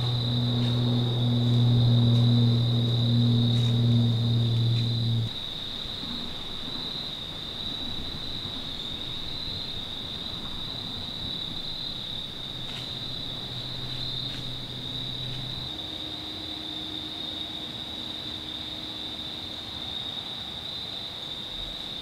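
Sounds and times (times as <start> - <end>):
faint low hum: 0.0 - 19.8
crickets trilling: 0.0 - 22.0.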